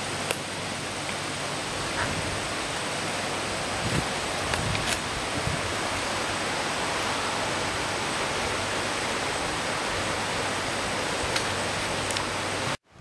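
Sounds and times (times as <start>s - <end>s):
brook water rushing: 0.0s - 13.0s.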